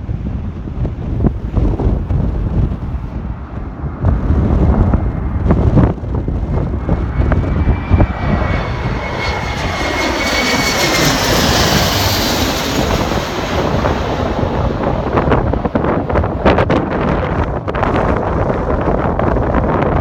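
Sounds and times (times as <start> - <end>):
jet flying overhead: 0.0 - 20.0
wind rumbling on microphone: 0.0 - 20.0
high engine whine: 1.2 - 18.3.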